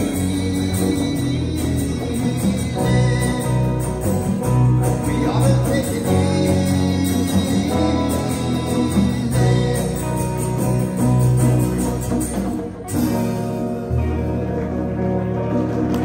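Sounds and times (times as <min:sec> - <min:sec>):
acoustic guitar: 0:00.0 - 0:16.0
electric guitar: 0:00.0 - 0:16.0.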